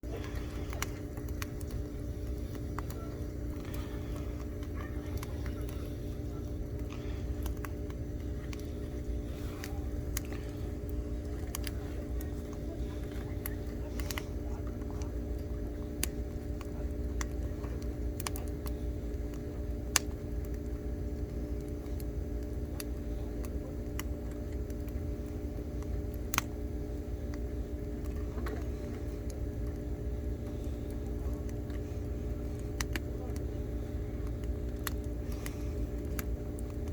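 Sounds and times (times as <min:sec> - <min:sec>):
campfire crackling and popping: 0:00.0 - 0:36.9
low rumble and hum: 0:00.0 - 0:36.9.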